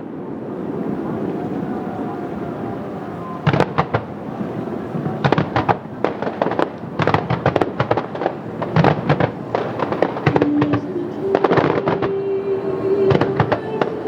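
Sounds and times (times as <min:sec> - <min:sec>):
fireworks bangs and crackles: 0:00.1 - 0:12.3, 0:13.0 - 0:14.0.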